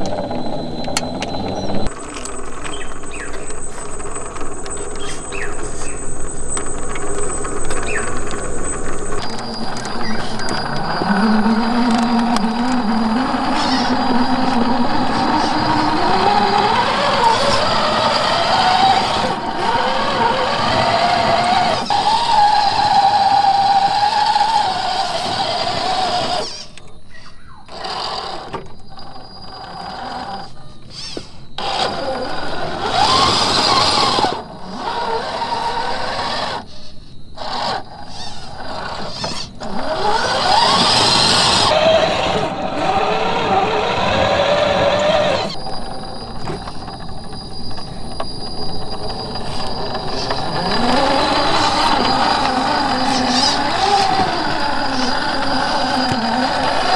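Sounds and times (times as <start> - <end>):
electric motor and gears whining: 0.0 - 56.9.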